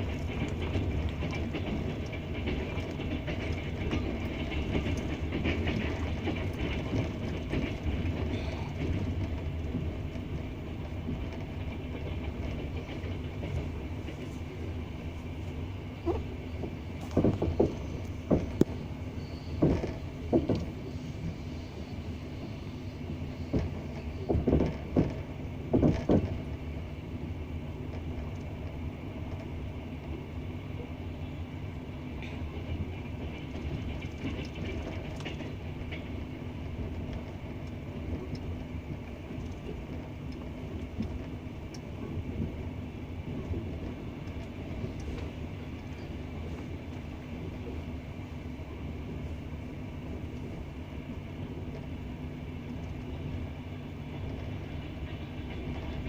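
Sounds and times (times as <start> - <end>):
train wheels clattering: 0.0 - 30.2, 32.1 - 56.0
train rolling rumble: 0.0 - 56.0.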